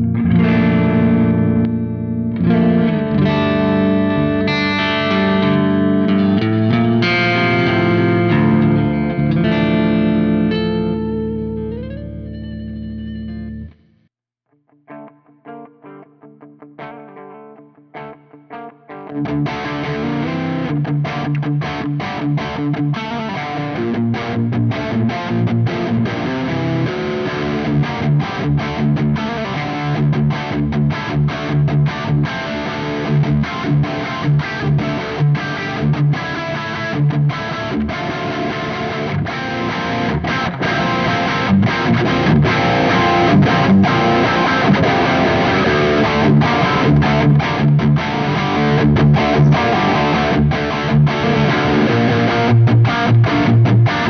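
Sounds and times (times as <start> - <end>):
distorted electric guitar riff: 0.0 - 54.0.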